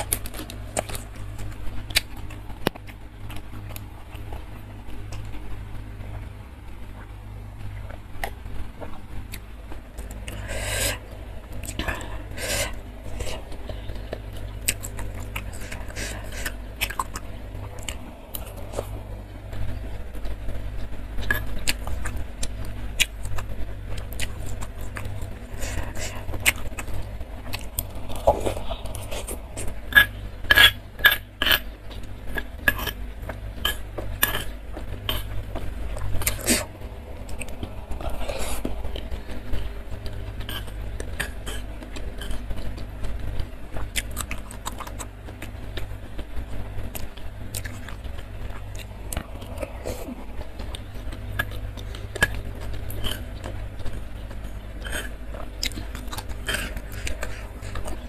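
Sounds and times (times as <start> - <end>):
close-up chewing: 0.0 - 58.0
steady low hum: 0.0 - 58.0.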